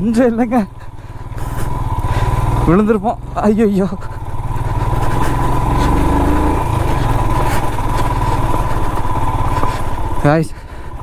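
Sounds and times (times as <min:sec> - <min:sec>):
motorcycle engine climbing: 0:00.0 - 0:11.0.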